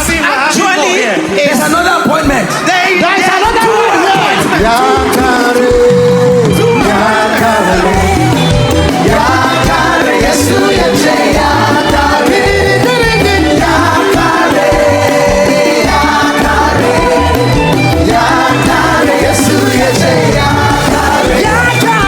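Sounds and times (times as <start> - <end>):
band with pulsing bass beat: 1.2 - 22.0
choir singing gospel: 2.6 - 22.0.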